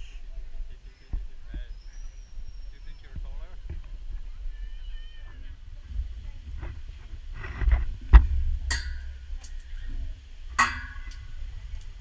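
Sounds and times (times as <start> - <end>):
wind on microphone: 0.6 - 10.6.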